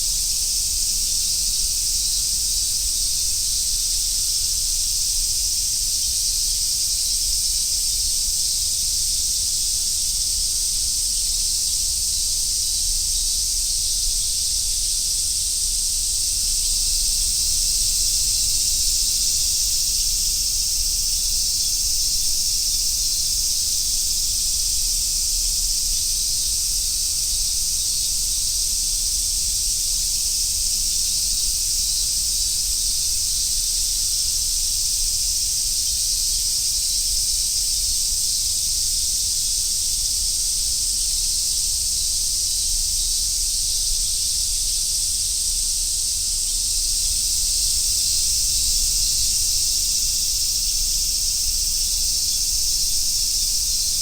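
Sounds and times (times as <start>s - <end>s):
cicadas singing in chorus: 0.0s - 54.0s.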